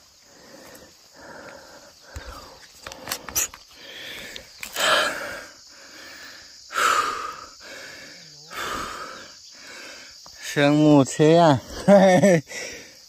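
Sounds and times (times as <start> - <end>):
person breathing hard: 0.0 - 10.3, 12.4 - 13.0.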